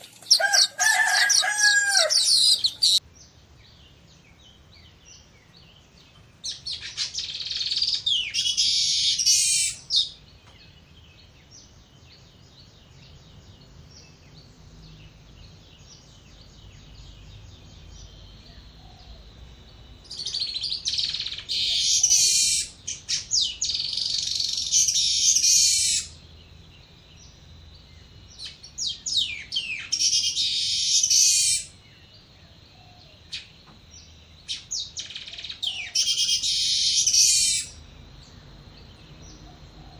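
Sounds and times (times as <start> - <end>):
buzzy chattering bird song: 0.0 - 18.4, 19.6 - 32.6, 33.2 - 39.4.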